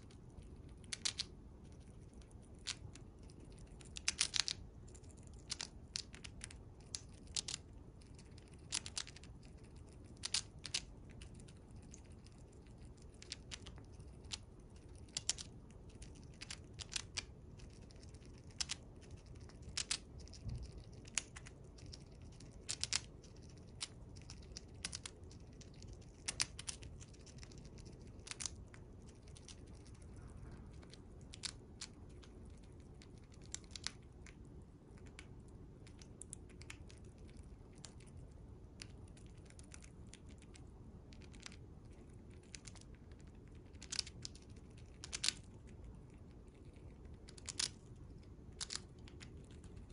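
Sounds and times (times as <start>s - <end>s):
chipmunk gnawing crunching: 0.0s - 49.9s.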